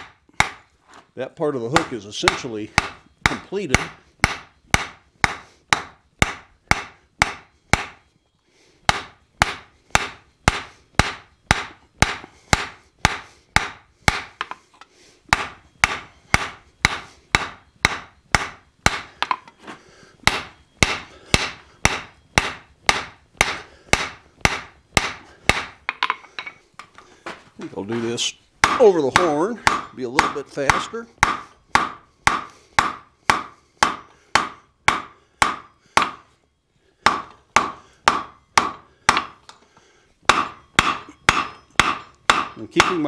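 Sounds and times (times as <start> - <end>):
hammer striking metal on anvil: 0.0 - 0.6, 1.8 - 8.0, 8.9 - 14.6, 15.3 - 19.6, 20.2 - 26.6, 27.9 - 36.3, 37.0 - 39.5, 40.3 - 43.0.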